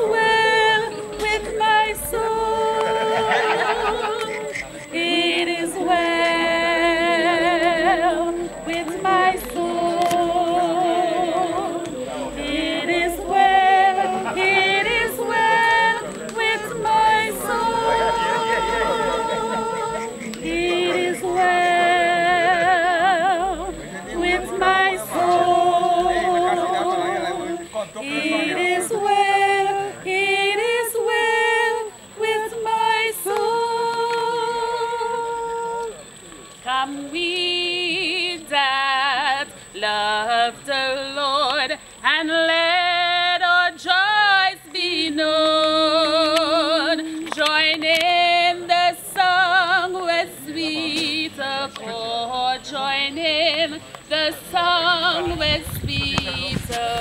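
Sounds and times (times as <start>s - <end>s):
woman singing: 0.0s - 36.0s, 36.6s - 57.0s.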